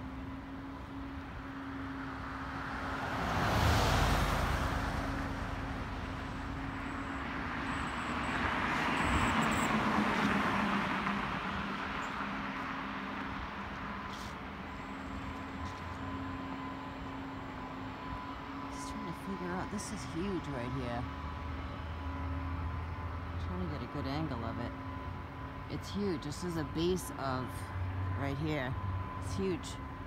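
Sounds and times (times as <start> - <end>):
road vehicles passing by: 0.0 - 30.0.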